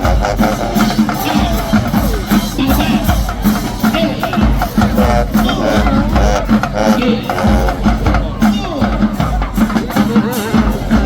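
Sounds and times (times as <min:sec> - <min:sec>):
drums beating: 0:00.0 - 0:11.0
marching band playing: 0:00.0 - 0:11.0.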